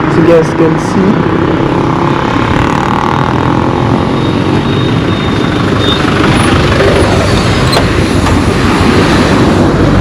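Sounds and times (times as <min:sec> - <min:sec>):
road noise: 0:00.0 - 0:10.0
vehicle engine running: 0:00.2 - 0:10.0.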